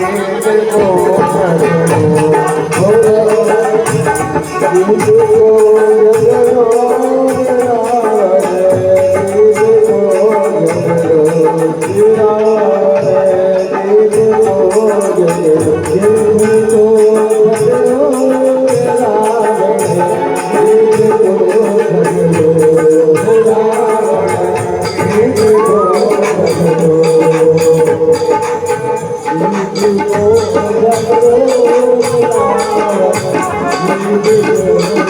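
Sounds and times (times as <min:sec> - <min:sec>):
steady drum beat: 0:00.0 - 0:35.0
wavering folk melody: 0:00.0 - 0:35.0.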